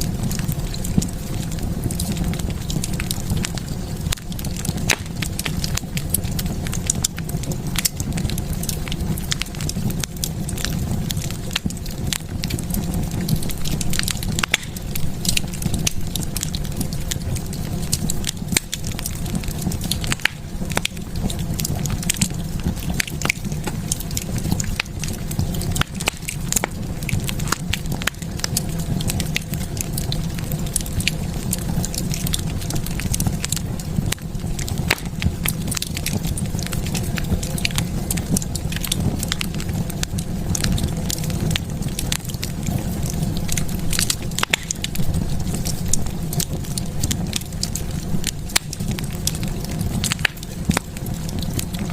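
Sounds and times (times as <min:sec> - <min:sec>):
low rumble of flames: 0:00.0 - 0:51.9
wood fire crackling: 0:00.0 - 0:51.9.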